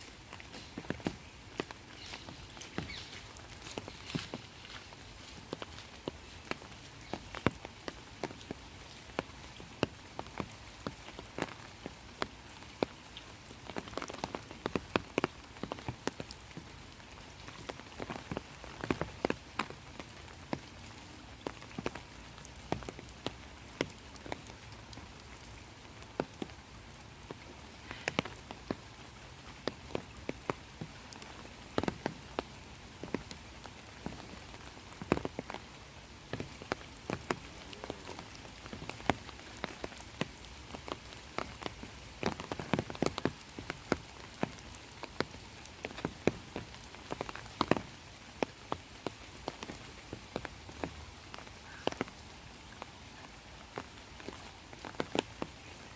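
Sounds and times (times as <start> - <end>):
rain falling: 0.0 - 55.9.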